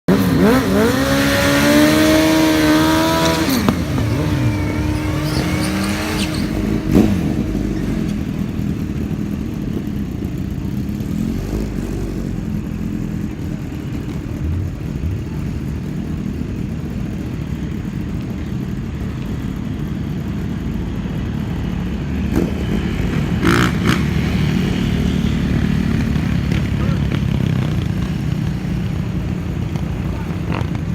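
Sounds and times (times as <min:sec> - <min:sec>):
motorcycle engine droning: 0:00.1 - 0:30.9.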